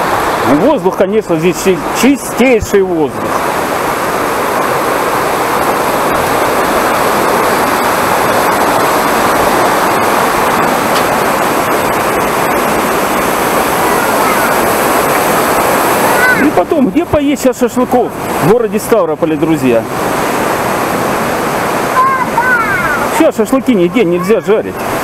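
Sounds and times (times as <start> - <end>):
waterfall and stream rushing: 0.0 - 25.0.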